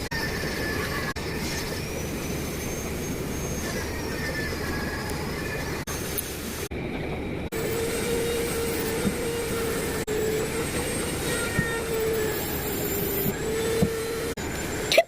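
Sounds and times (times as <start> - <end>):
constant hum: 0.0 - 15.0
moving vehicle rumble: 0.0 - 15.0.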